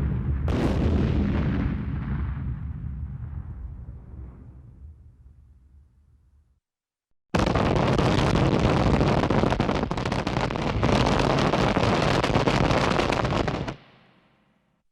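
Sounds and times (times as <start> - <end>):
rapid explosions crackling rumble: 0.0 - 5.4, 7.4 - 14.1.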